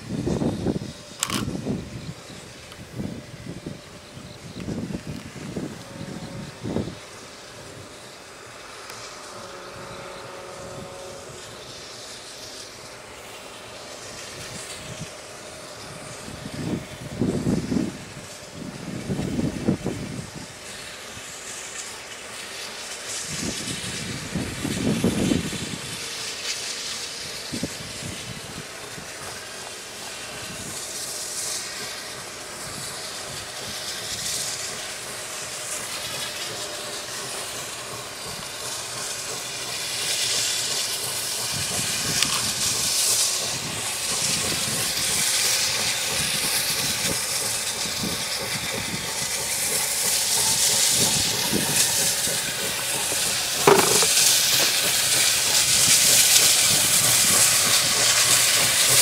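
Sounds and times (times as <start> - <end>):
steam locomotive hissing: 0.0 - 59.0
train running noise: 0.0 - 59.0.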